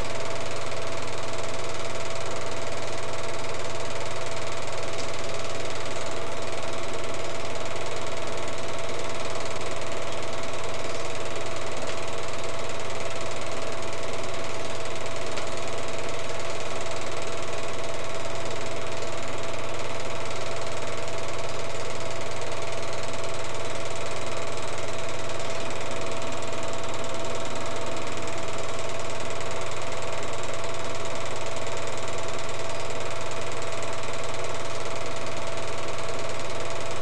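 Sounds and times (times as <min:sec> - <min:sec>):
film projector whirring: 0:00.0 - 0:37.0.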